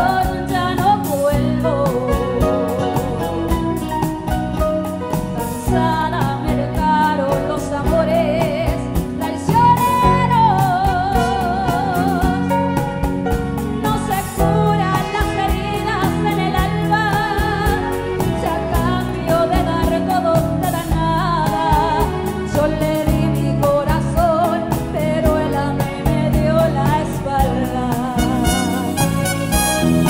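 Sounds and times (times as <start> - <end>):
woman singing into microphone: 0.0 - 29.2
acoustic guitar: 0.0 - 30.0
drum kit beat: 0.0 - 30.0
keyboard: 0.0 - 30.0.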